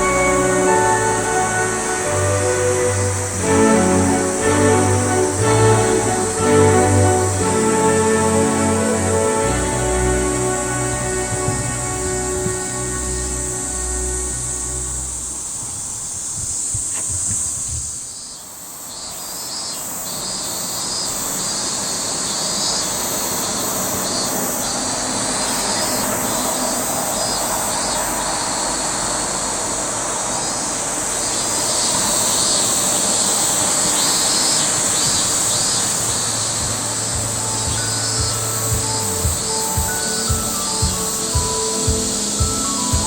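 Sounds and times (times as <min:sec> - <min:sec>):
steady rushing noise: 0:00.0 - 0:18.2, 0:21.5 - 0:43.0
cicadas buzzing: 0:00.0 - 0:43.0.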